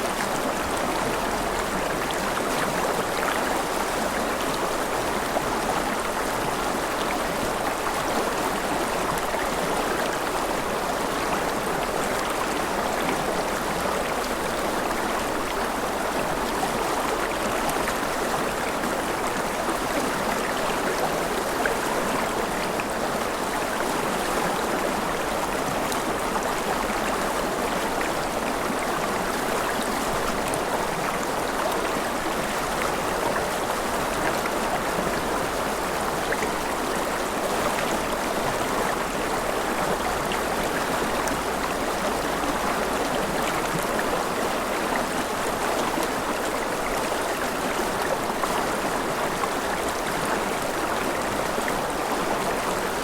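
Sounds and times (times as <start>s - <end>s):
river water rushing and gurgling: 0.0s - 53.0s.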